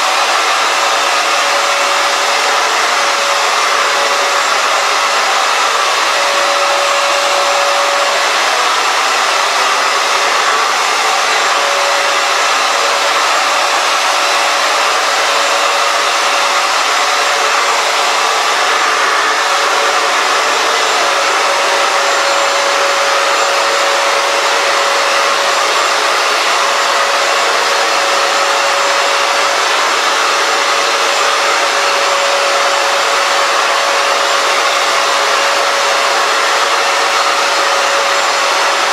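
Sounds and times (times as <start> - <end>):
floor cleaner motor whirring: 0.0 - 38.9.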